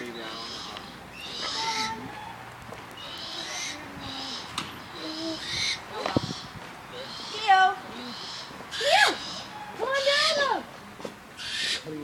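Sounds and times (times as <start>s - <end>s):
owl raspy calls: 0.0s - 2.4s, 3.0s - 10.6s, 11.4s - 12.0s.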